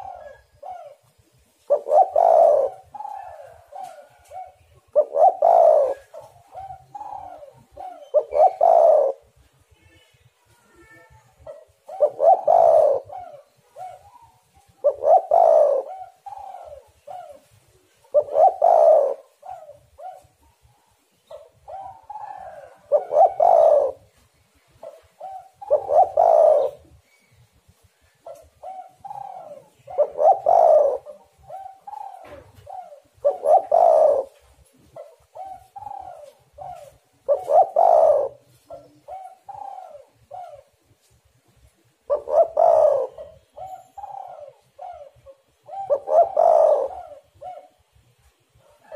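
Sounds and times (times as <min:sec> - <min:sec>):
dove cooing: 0:00.0 - 0:09.4, 0:10.9 - 0:27.2, 0:28.0 - 0:48.9.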